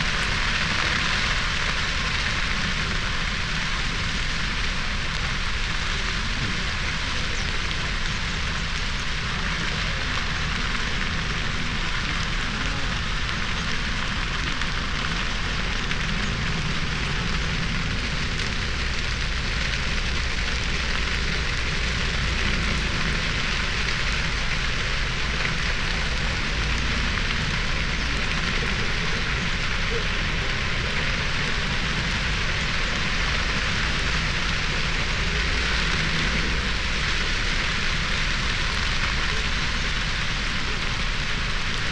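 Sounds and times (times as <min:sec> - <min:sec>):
dry grass crackling in fire: 0:00.0 - 0:41.9
low fire rumble: 0:00.0 - 0:41.9.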